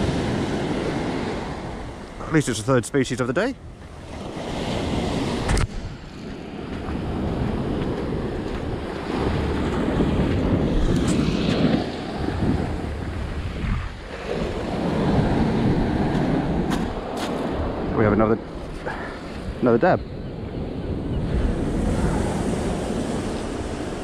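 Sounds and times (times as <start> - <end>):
waves breaking on a beach: 0.0 - 24.0
wind buffeting the microphone: 3.4 - 24.0.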